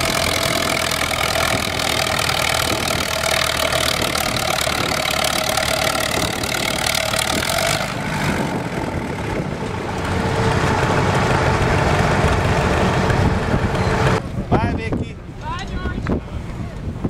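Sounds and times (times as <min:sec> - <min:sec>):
tractor engine running loud: 0:00.0 - 0:14.2.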